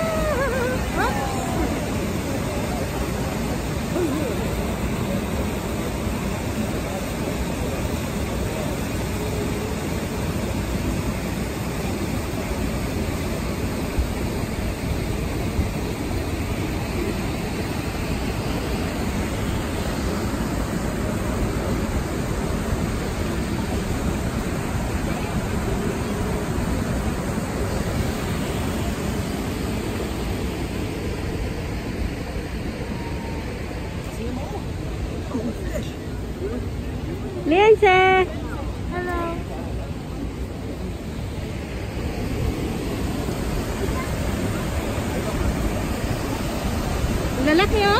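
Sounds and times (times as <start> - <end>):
river water rushing over dam: 0.0 - 47.9.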